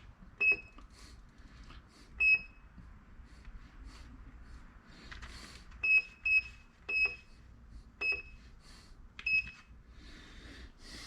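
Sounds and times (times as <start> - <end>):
faint low shop hum: 0.0 - 11.0.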